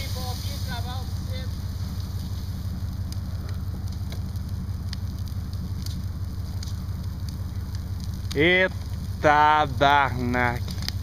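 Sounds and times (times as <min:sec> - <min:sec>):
fire crackling and popping: 0:00.0 - 0:11.0
fire low rumble: 0:00.0 - 0:11.0.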